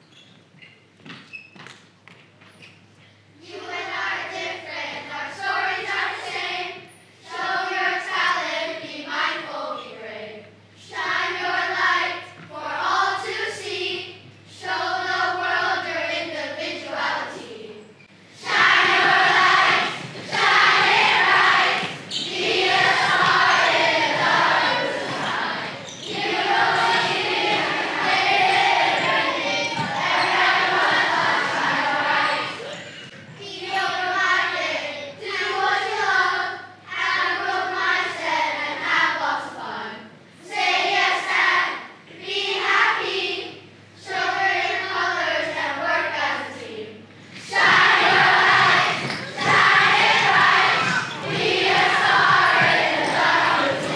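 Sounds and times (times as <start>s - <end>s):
children's choir singing: 3.4s - 53.9s.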